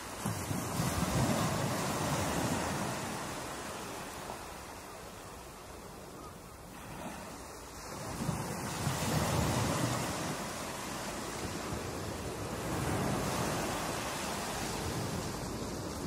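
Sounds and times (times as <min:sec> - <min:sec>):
ocean surf breaking: 0:00.0 - 0:05.5, 0:06.6 - 0:16.0.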